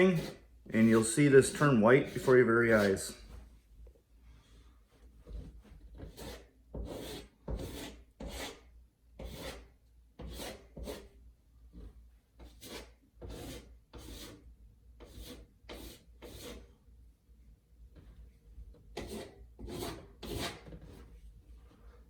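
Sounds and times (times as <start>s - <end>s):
putty knife scraping drywall: 0.0s - 3.3s, 5.0s - 16.8s, 17.9s - 21.9s.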